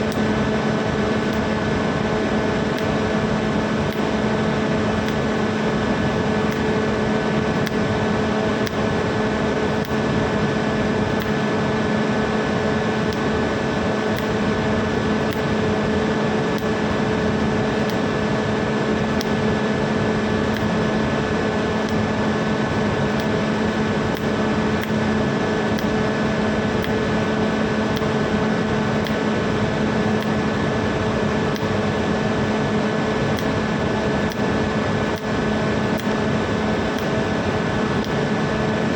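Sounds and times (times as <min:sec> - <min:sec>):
welder hum: 0:00.0 - 0:38.9.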